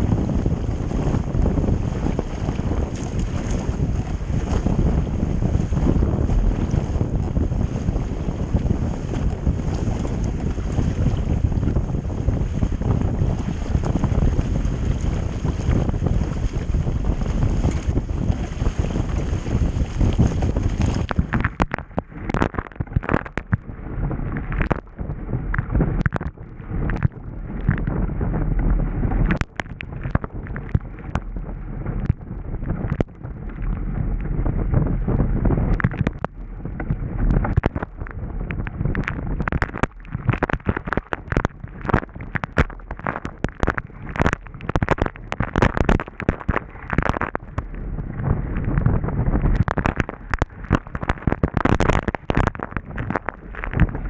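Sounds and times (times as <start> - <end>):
water slapping against hull: 0.0 - 54.0
wind buffeting microphone: 0.0 - 54.0.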